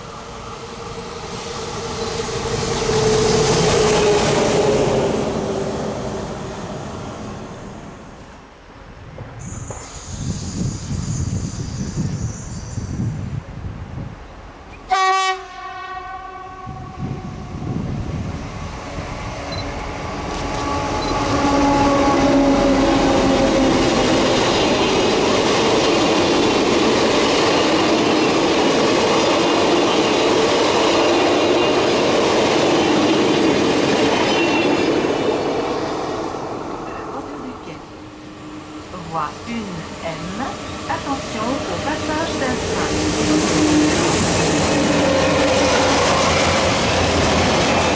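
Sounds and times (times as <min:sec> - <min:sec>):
train wheels rushing on rail: 0:00.0 - 0:08.4, 0:09.0 - 0:47.9
train whine: 0:00.0 - 0:47.9.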